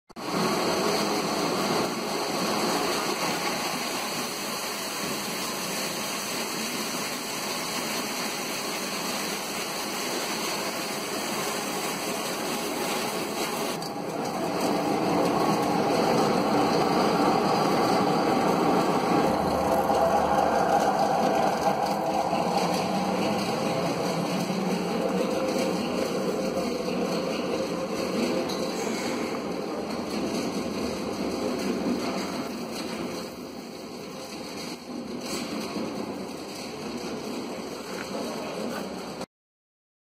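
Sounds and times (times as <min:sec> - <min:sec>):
bean peeling machine running: 0:00.2 - 0:39.0.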